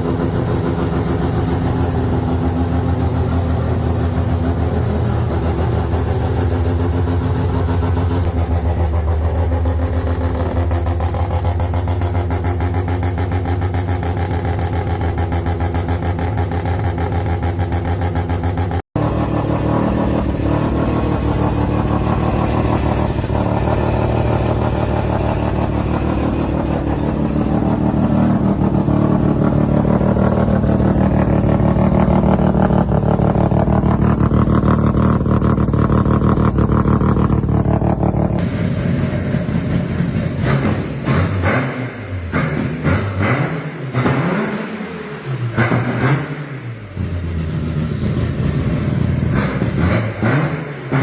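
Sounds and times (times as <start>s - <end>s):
rotary engine brapping: 0.0s - 51.0s.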